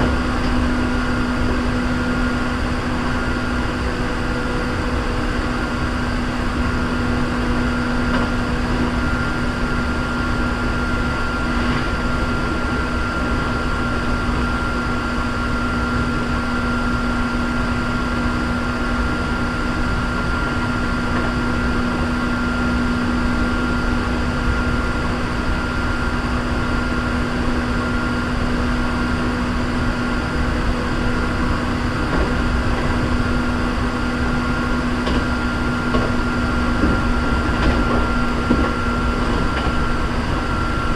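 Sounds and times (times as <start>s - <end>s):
constant hum: 0.0s - 40.9s
train wheels rumbling on rails: 0.0s - 40.9s.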